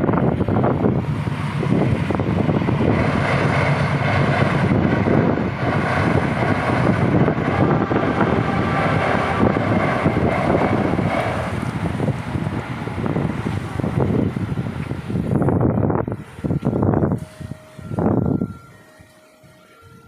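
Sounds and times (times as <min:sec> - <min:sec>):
gusty wind on microphone: 0:00.0 - 0:18.8.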